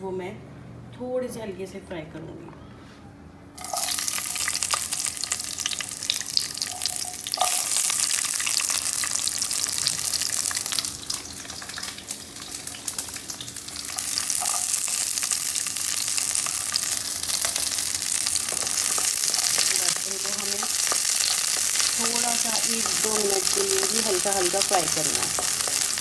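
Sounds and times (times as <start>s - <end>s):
onions sizzling in hot oil: 3.6s - 26.0s.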